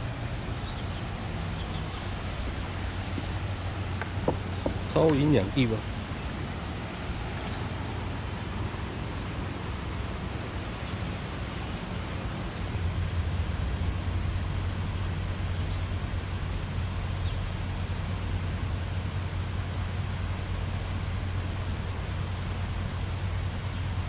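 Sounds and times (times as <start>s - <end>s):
low hum: 0.0s - 24.0s
outdoor rumble and hiss: 0.0s - 24.0s.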